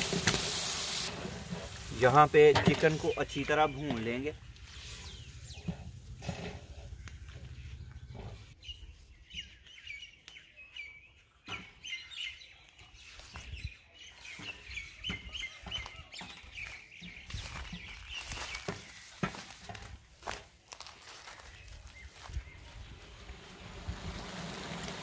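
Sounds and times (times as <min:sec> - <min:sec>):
small birds chirping: 0:01.6 - 0:23.6.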